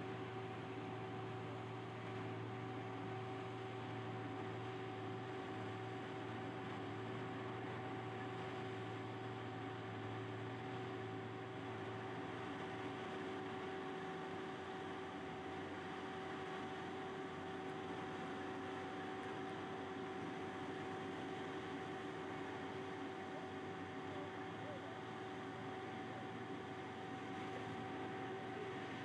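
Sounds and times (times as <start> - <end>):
distant heavy machinery engine drone: 0.0 - 29.0.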